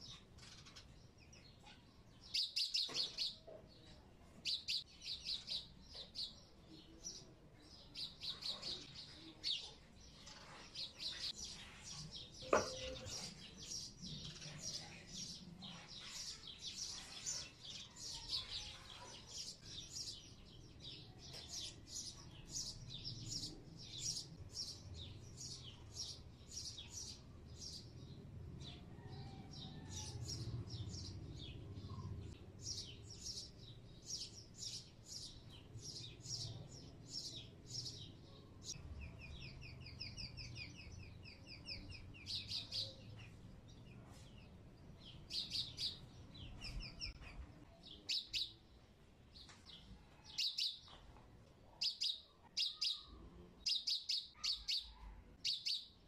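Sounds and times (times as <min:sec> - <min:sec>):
small bird chirping: 0:00.0 - 0:27.9, 0:28.6 - 0:48.6, 0:49.7 - 0:51.1, 0:51.8 - 0:56.0.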